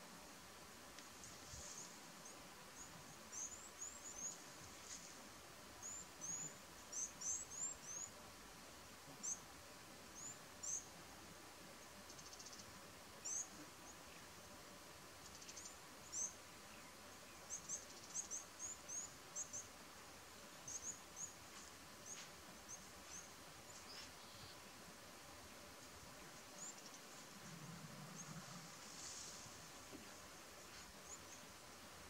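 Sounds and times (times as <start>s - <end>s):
faint steady hiss: 0.0s - 32.0s
small birds chirping: 1.0s - 8.3s, 9.1s - 9.5s, 10.1s - 11.0s, 11.8s - 14.4s, 15.2s - 32.0s.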